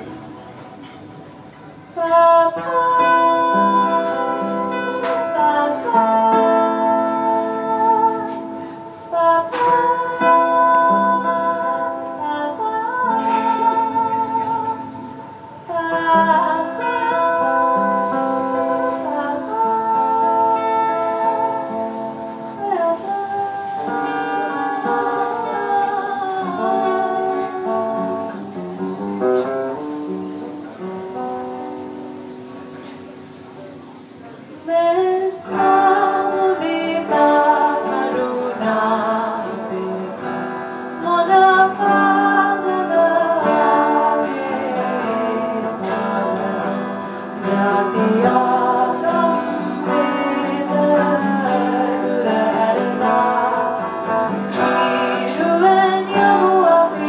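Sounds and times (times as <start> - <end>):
acoustic guitar: 0.0 - 57.0
woman singing: 1.9 - 28.6, 34.6 - 57.0.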